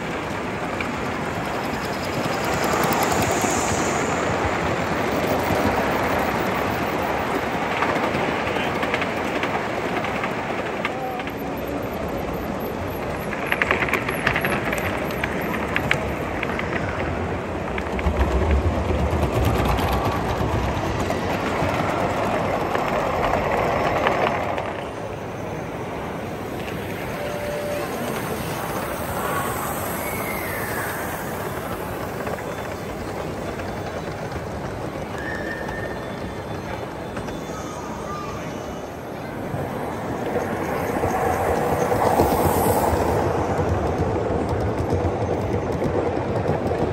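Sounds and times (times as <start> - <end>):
model train rolling along track: 0.0 - 46.9
voices chattering: 0.0 - 46.9.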